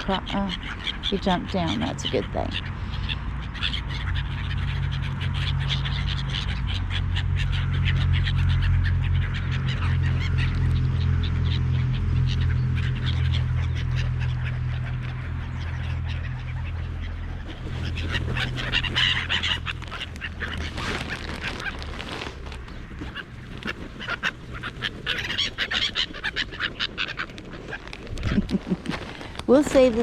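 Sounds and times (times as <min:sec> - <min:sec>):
gulls squawking: 0:00.0 - 0:30.0
low steady hum: 0:00.0 - 0:30.0.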